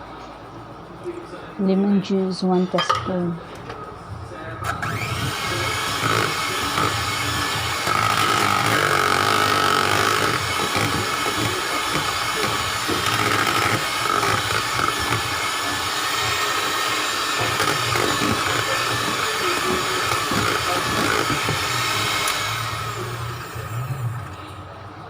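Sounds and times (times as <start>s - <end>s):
electric mixer running: 2.8s - 25.0s.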